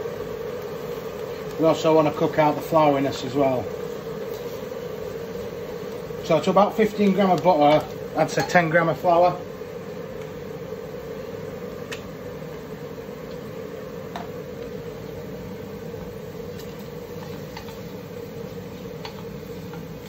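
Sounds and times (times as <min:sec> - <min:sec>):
roux sizzling in a pan: 0:00.0 - 0:20.0.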